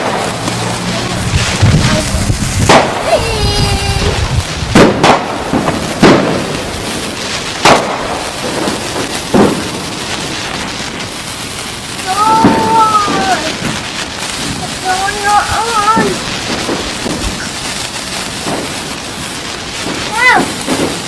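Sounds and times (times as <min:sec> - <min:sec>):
fireworks bangs: 0:00.0 - 0:21.0
steady hiss: 0:00.0 - 0:21.0.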